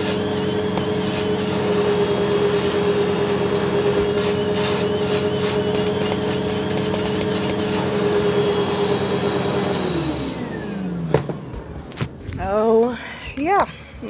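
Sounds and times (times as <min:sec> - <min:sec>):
motor winding down: 0:00.0 - 0:12.5
vacuum cleaner running: 0:00.0 - 0:12.7.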